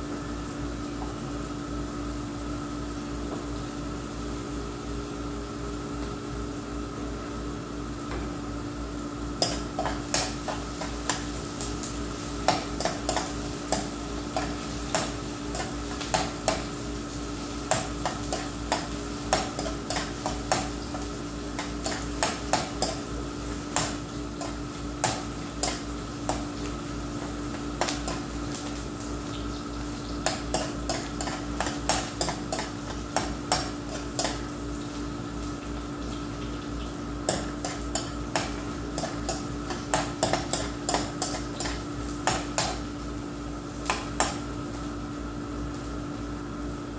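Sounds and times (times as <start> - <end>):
faint sizzle: 0.0 - 46.9.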